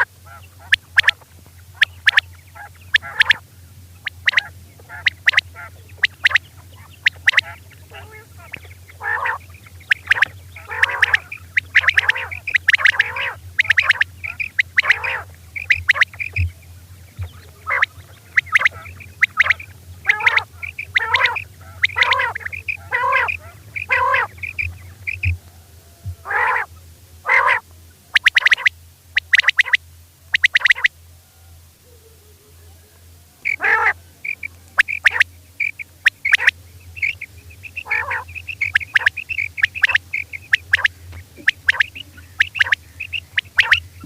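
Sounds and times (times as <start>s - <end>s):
quail calling: 0.0s - 32.0s, 33.4s - 44.0s
steady low hum: 0.0s - 44.0s.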